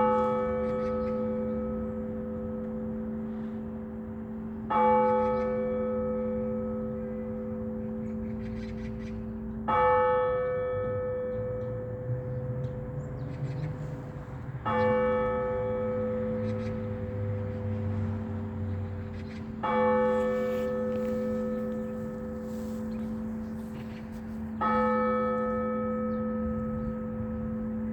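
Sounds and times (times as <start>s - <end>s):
large church bell tolling: 0.0s - 27.9s.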